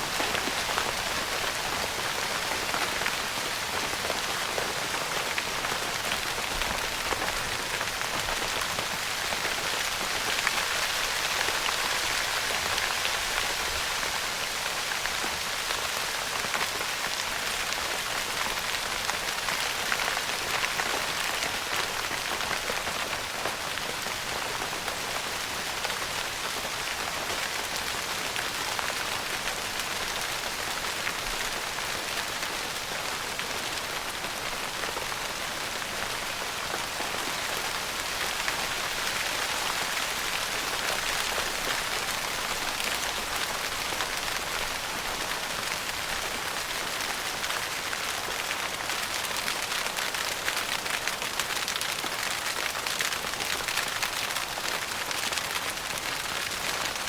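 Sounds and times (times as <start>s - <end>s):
rain pattering on tent fabric: 0.0s - 57.0s.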